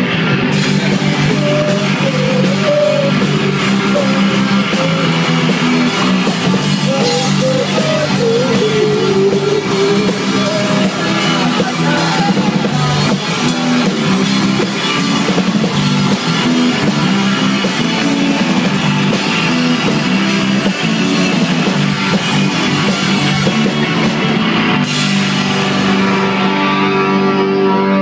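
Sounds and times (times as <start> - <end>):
drums with cymbal strokes: 0.0 - 26.8
bass guitar: 0.0 - 28.0
electric guitars: 0.0 - 28.0.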